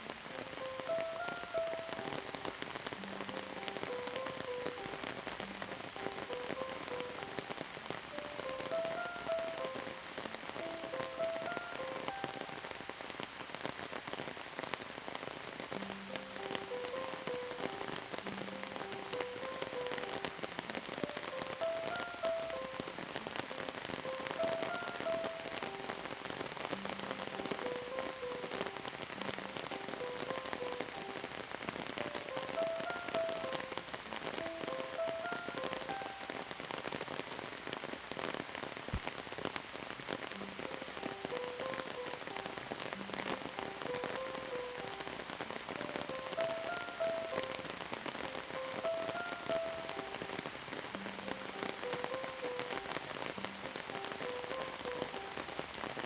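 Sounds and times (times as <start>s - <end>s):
soft melody of held notes: 0.0s - 13.3s, 15.4s - 37.2s, 40.3s - 56.0s
steady rain falling: 0.0s - 56.0s.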